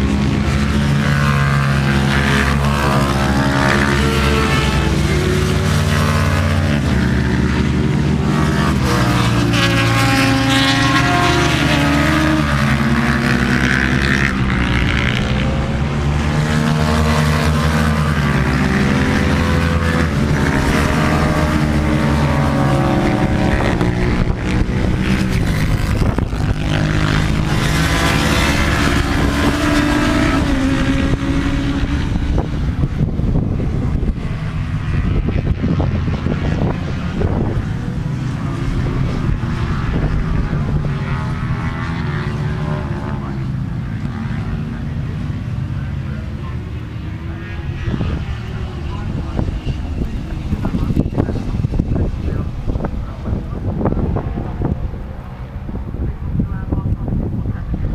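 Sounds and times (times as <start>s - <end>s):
racing motorcycle engines: 0.0s - 57.9s.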